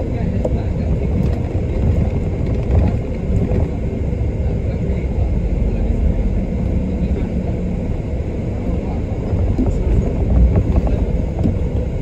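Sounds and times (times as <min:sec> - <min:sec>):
bus engine and tyres rumbling: 0:00.0 - 0:12.0.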